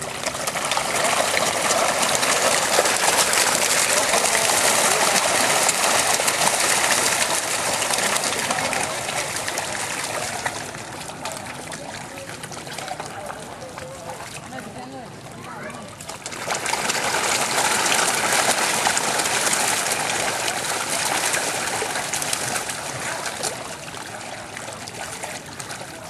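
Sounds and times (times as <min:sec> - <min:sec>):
fish splashing at water surface: 0:00.0 - 0:26.0.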